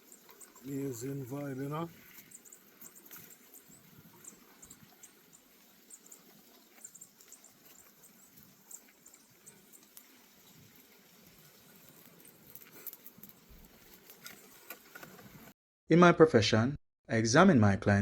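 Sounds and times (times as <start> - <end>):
faint outdoor ambience: 0.0 - 15.5.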